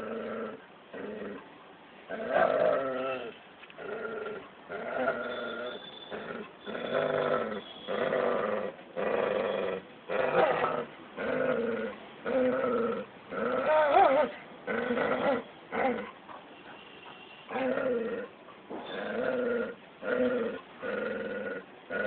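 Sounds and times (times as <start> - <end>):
dog growling: 0.0 - 1.4, 2.1 - 16.2, 17.5 - 22.0.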